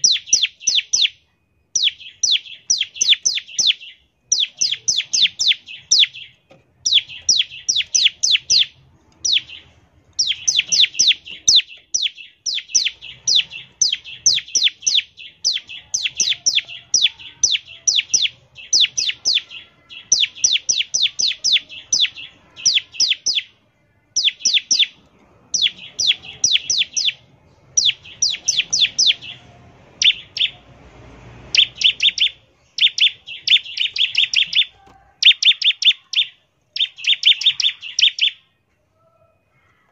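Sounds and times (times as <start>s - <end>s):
bird singing rapid high chirps: 0.0s - 38.6s.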